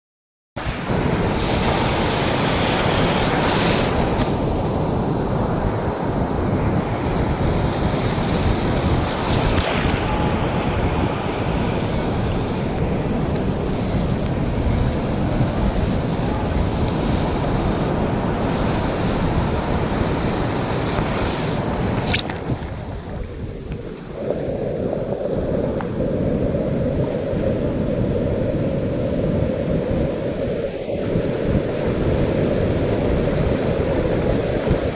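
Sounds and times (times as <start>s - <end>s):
sea waves washing in: 0.6s - 34.9s
wind buffeting microphone: 0.7s - 34.9s.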